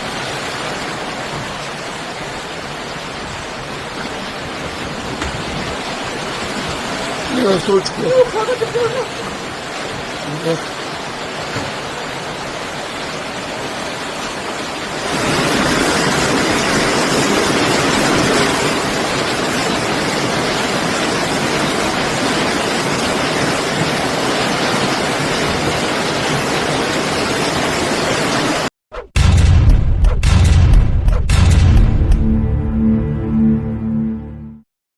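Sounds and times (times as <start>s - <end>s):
floodwater rushing: 0.0s - 30.4s.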